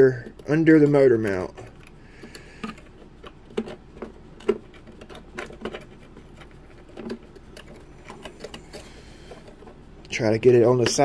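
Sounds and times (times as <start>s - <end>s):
metal pick tapping and scraping plastic: 0.1s - 9.8s, 10.7s - 11.0s.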